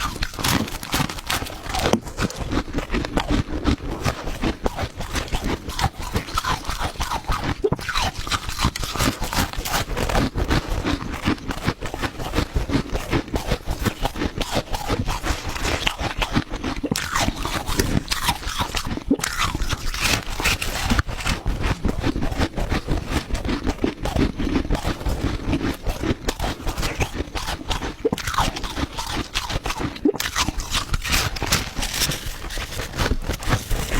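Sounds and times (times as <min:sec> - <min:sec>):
person chewing hard ice: 0:00.0 - 0:33.9.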